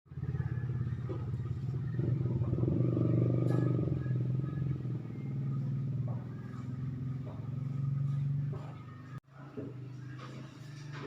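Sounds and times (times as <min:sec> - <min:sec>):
engine humming: 0:00.1 - 0:09.2.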